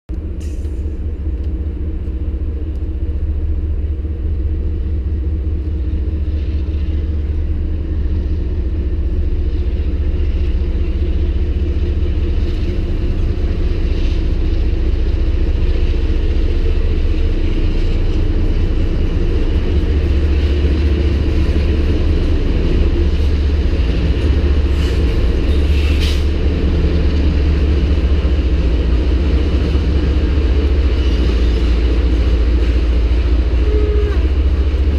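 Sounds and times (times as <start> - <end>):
freight locomotive engine drone: 0.1 - 34.9.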